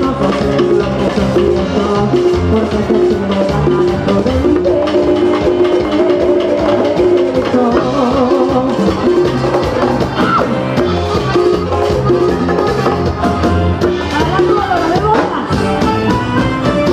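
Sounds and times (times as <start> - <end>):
live latin dance band: 0.0 - 16.9.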